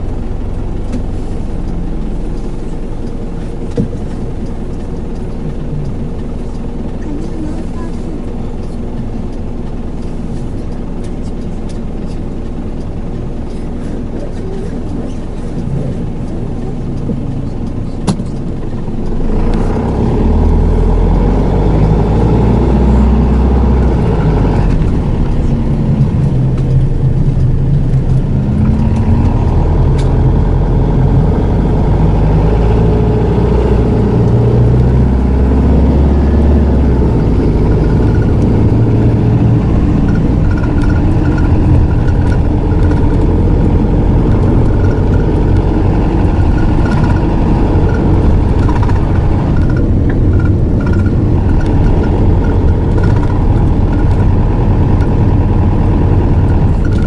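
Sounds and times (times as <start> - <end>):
minibus diesel engine pulling away: 0.0 - 57.0.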